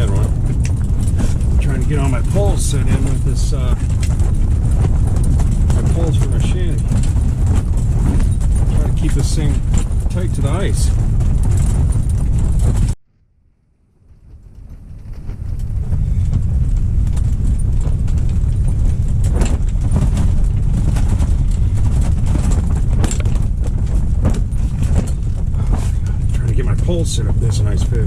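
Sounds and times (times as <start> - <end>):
knocks and clatter: 0.0 - 13.0, 14.1 - 28.0
wind buffeting microphone: 0.0 - 13.0, 14.0 - 28.0.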